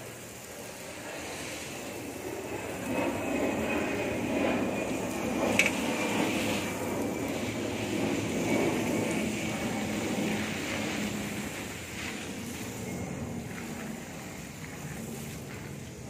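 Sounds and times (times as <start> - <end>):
water spraying from hose: 0.0 - 16.0.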